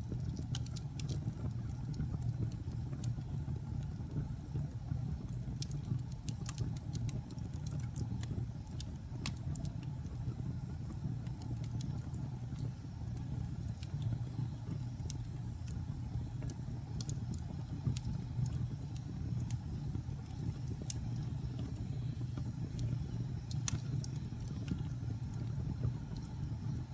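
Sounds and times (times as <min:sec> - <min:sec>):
fire low rumble: 0:00.0 - 0:26.9
wood fire crackling and popping: 0:00.0 - 0:26.9.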